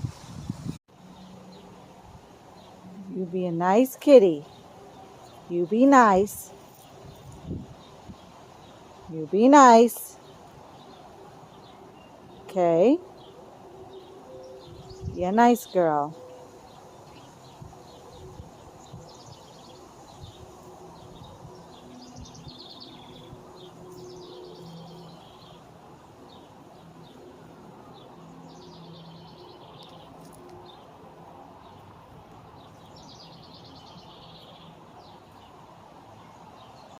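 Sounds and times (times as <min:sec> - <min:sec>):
small birds chirping: 0:02.5 - 0:31.0, 0:31.6 - 0:37.0.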